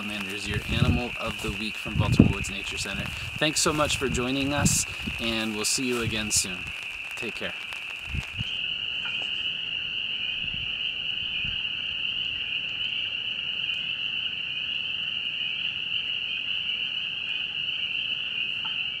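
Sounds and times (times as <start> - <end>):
frogs peeping chorus: 0.0 - 19.0.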